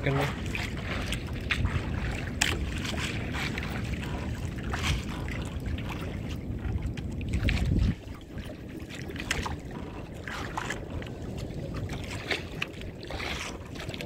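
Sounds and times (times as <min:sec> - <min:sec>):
water splashing: 0:00.0 - 0:14.0
wind buffeting microphone: 0:00.0 - 0:14.0.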